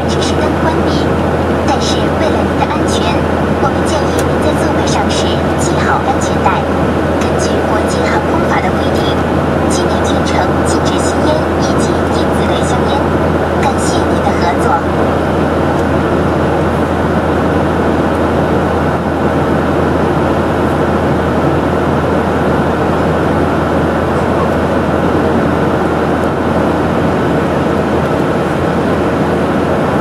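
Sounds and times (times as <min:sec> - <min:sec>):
jet airliner cabin noise: 0:00.0 - 0:30.0.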